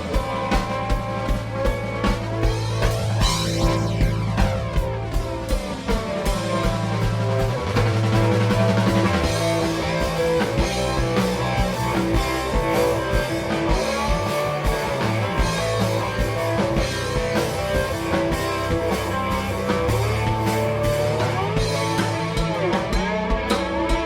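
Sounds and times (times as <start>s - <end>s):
guitar bending notes: 0.0s - 24.0s
rock band playing live: 0.0s - 24.0s.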